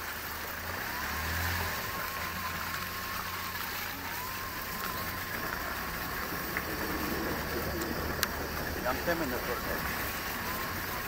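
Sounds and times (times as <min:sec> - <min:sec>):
vehicle rumbling on dirt road: 0:00.0 - 0:11.0
faint wavering whine: 0:01.5 - 0:11.0.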